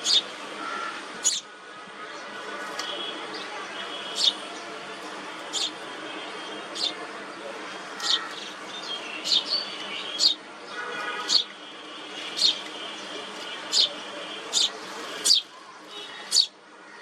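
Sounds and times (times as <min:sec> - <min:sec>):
small birds chirping: 0:00.0 - 0:01.5, 0:02.2 - 0:05.9, 0:06.6 - 0:07.0, 0:07.8 - 0:16.6.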